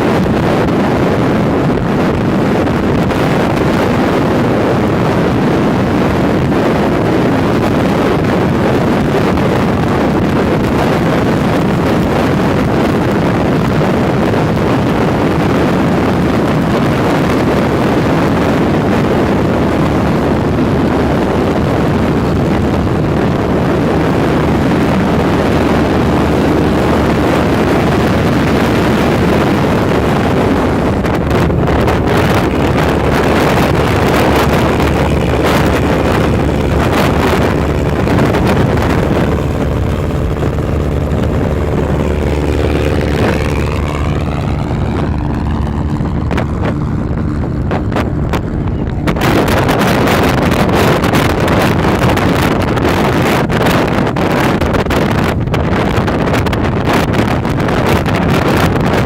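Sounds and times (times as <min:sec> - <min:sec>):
vehicle engine running hard: 0:00.0 - 0:59.0
wind buffeting microphone: 0:00.0 - 0:59.0.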